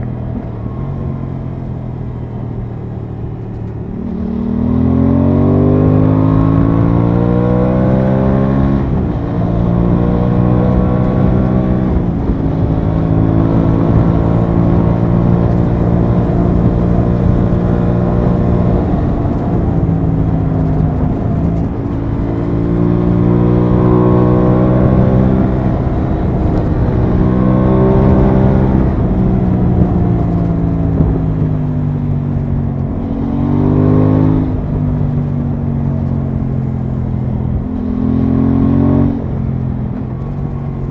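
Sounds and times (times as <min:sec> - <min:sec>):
motorcycle engine revving: 0:00.0 - 0:40.9
wind rush: 0:03.9 - 0:40.9.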